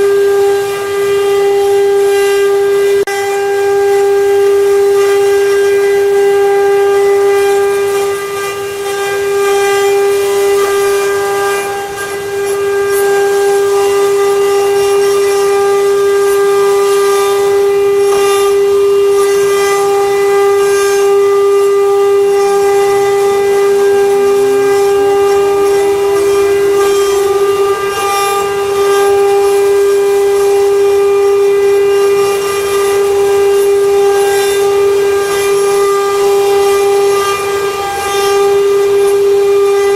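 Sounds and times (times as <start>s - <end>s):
router spindle motor whining: 0.0s - 39.9s.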